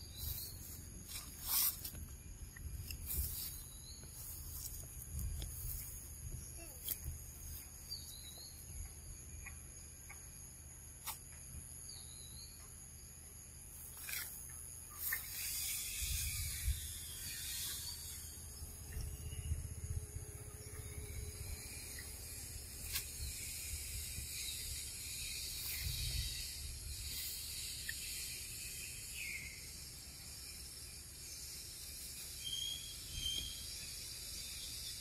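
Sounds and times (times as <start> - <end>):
insect drone: 0.0 - 35.0.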